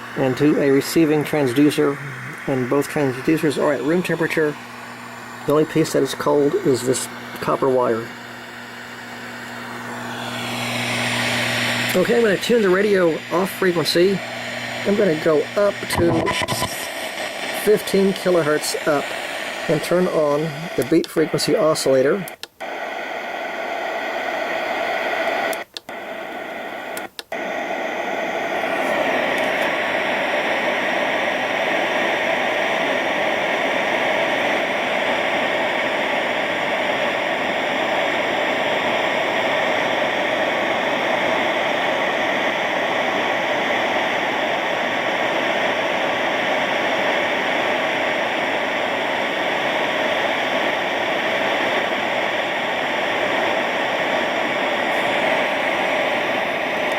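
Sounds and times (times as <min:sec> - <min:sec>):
radio static hiss: 0:00.0 - 0:56.9.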